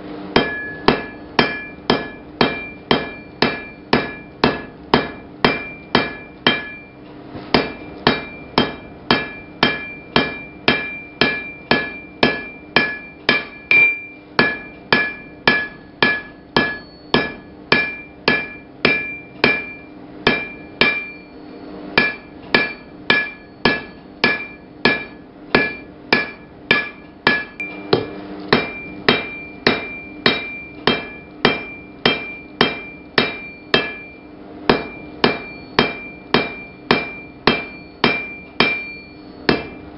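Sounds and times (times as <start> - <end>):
hammer striking iron on anvil: 0.3 - 21.4, 22.0 - 39.9.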